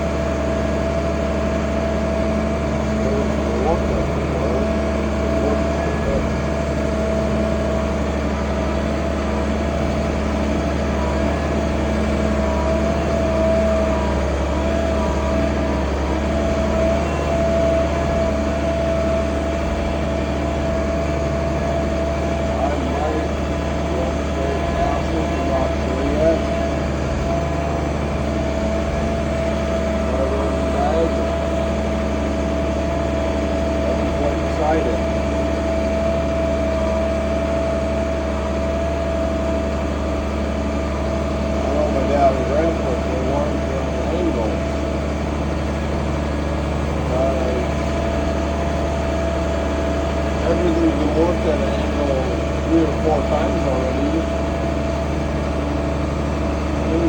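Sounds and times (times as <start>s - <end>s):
steady whine: 0.0s - 57.0s
tractor diesel engine running: 0.0s - 57.0s.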